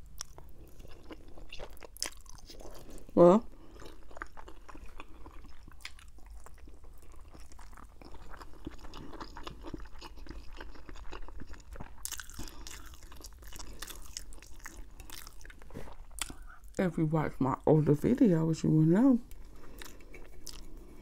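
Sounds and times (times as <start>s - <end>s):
wet chewing mouth sounds: 0.0s - 16.8s, 19.3s - 21.0s.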